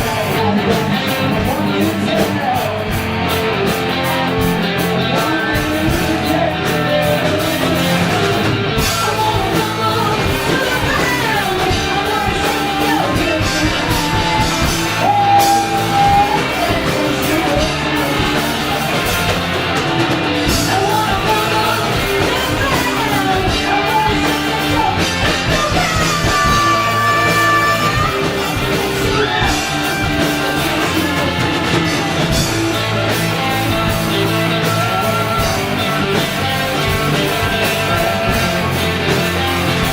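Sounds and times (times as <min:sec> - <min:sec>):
person singing: 0:00.0 - 0:39.9
rock band playing: 0:00.0 - 0:39.9.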